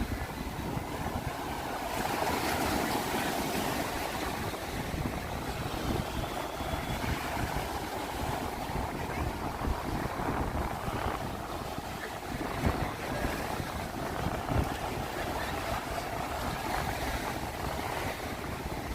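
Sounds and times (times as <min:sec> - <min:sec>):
ocean waves washing on shore: 0:00.0 - 0:18.9
wind buffeting microphone: 0:00.0 - 0:18.9.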